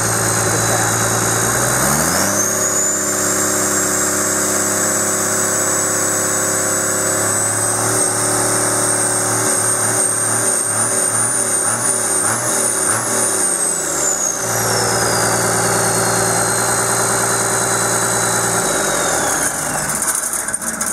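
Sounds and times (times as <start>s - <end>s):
diesel engine running: 0.0s - 20.9s
turbo whine: 0.0s - 20.9s.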